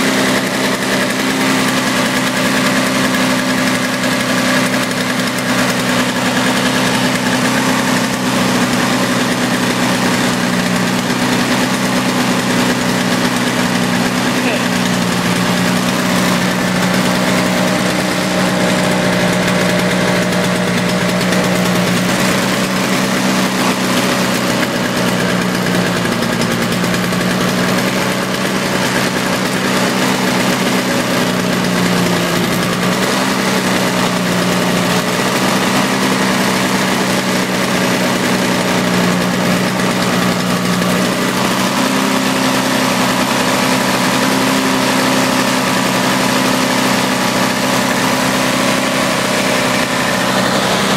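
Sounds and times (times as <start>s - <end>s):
snowblower engine running: 0.0s - 50.9s.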